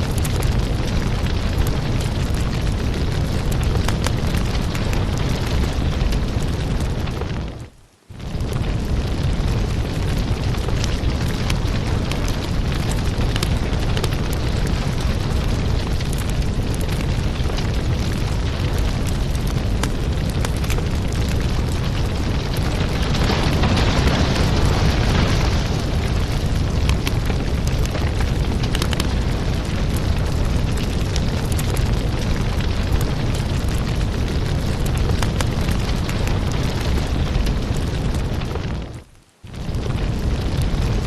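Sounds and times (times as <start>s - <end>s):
firewood crackling and popping: 0.0s - 41.0s
low rumble of flames: 0.0s - 41.0s
fire hissing: 0.1s - 41.0s.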